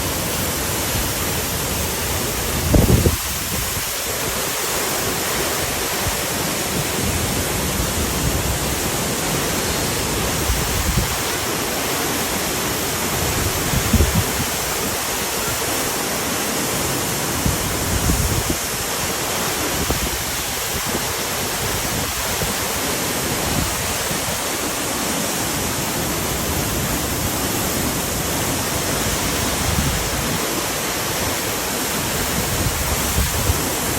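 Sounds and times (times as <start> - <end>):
waterfall roaring: 0.0 - 33.9.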